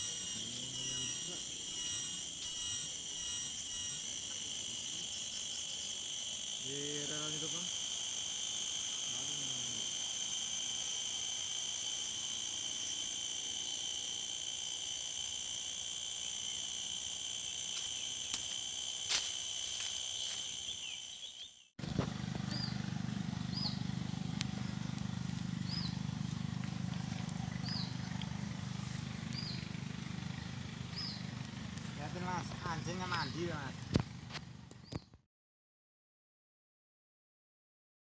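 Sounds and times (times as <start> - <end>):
night insect chorus: 0.0 - 22.8, 23.5 - 35.1.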